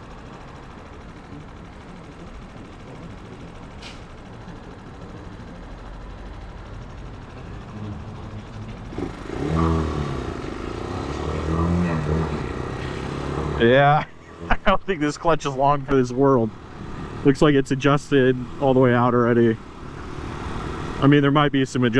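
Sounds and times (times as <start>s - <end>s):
motorcycle engine revving: 0.0s - 21.2s
road noise: 0.0s - 21.9s.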